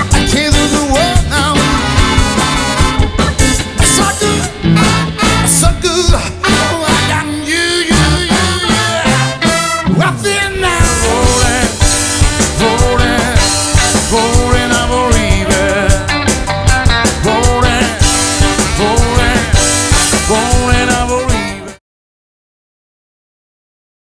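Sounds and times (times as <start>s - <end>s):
drums steady beat: 0.0s - 21.8s
rock band playing: 0.0s - 21.8s.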